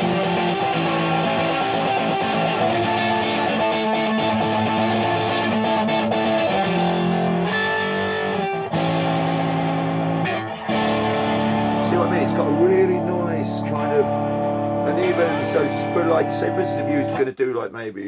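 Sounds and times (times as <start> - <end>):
distorted electric guitar chords: 0.0 - 17.2.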